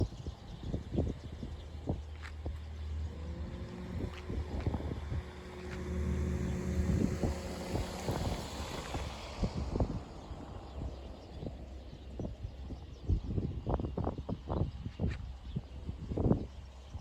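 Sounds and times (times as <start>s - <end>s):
jet engines rumbling: 0.0s - 16.8s
wind buffeting microphone: 0.0s - 17.0s.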